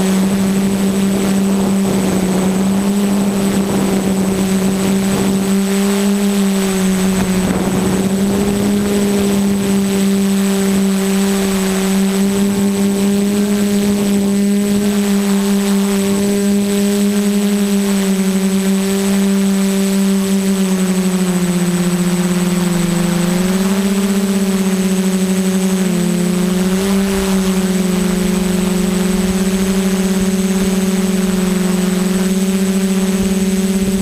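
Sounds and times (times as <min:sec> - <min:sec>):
drone motors buzzing hum: 0:00.0 - 0:34.0
thin high whine: 0:00.0 - 0:34.0.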